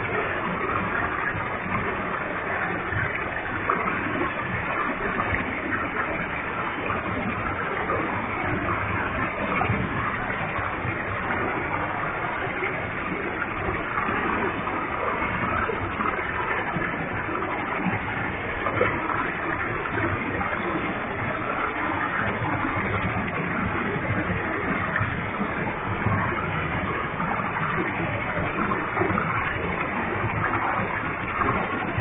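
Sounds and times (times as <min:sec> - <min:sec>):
waterfall rushing and splashing: 0:00.0 - 0:32.0.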